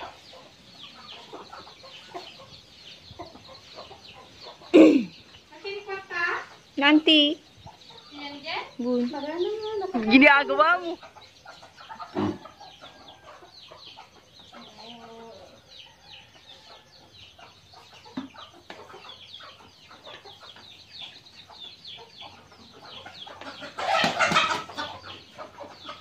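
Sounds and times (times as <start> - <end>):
chickens clucking and chirping: 0.0 - 26.0.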